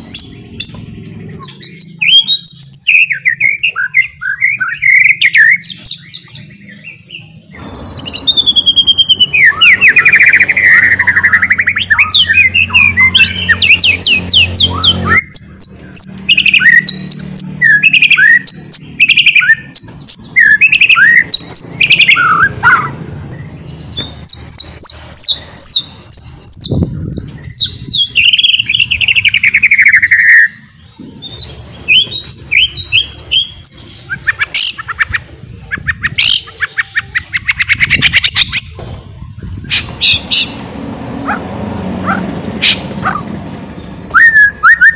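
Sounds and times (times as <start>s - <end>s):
bird singing twittering song: 0.0s - 40.9s.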